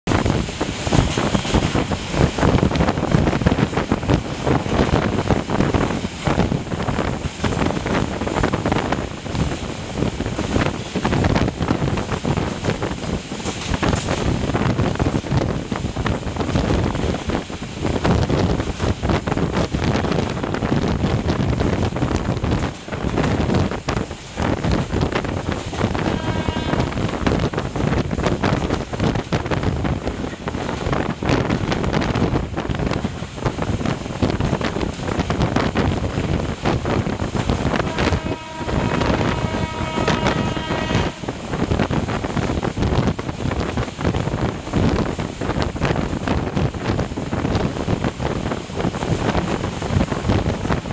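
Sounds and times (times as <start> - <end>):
train rumbling: 0.0 - 50.9
wind buffeting microphone: 0.0 - 50.9.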